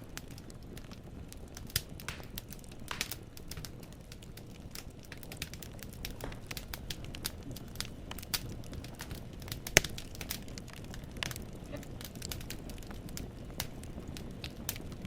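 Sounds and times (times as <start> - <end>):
logs crackling: 0.0 - 15.0
low rumble of flames: 0.0 - 15.0
sharp pops and snaps of fire: 0.0 - 15.0.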